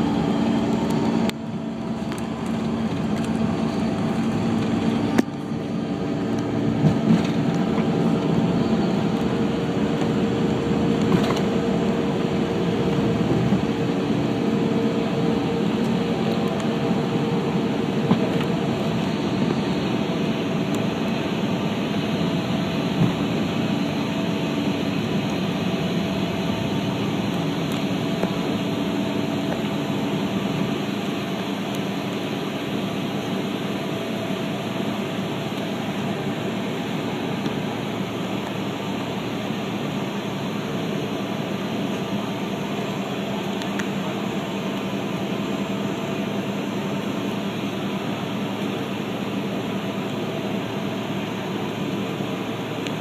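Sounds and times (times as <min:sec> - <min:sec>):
jet engines and rushing air: 0:00.0 - 0:53.0.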